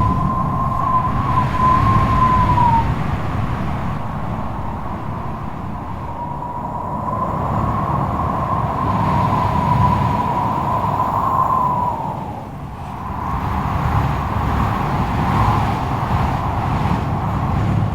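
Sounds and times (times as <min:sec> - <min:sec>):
high whistling wind howl: 0:00.0 - 0:17.9
strong wind gusting: 0:00.0 - 0:17.9.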